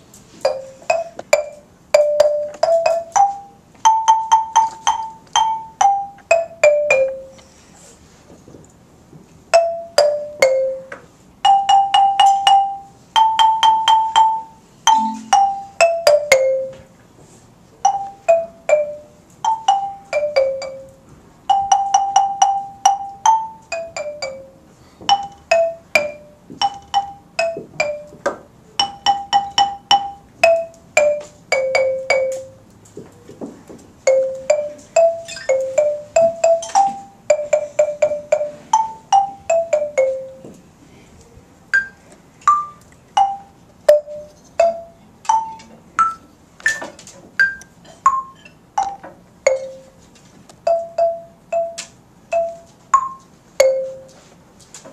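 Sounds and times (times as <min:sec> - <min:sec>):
barred instruments struck with mallets: 0:00.4 - 0:07.4, 0:09.6 - 0:16.9, 0:17.8 - 0:32.6, 0:34.1 - 0:40.6, 0:41.8 - 0:50.0, 0:50.7 - 0:54.2.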